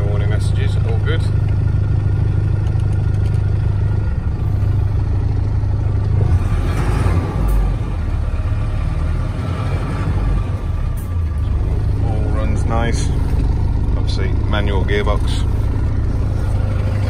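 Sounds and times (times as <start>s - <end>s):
diesel truck engine humming: 0.0s - 17.0s.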